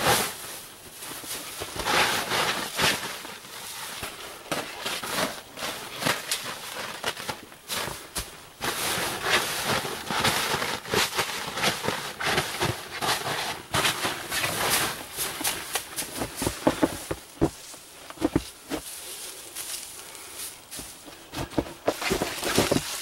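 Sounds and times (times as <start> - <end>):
evergreen boughs rustling: 0.0 - 23.0.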